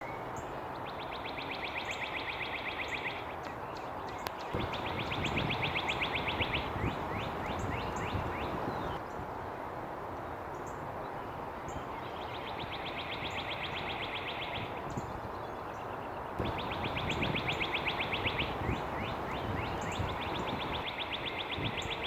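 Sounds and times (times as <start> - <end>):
songbird trills: 0.0 - 9.4, 10.5 - 22.0
steady background noise: 0.0 - 22.0.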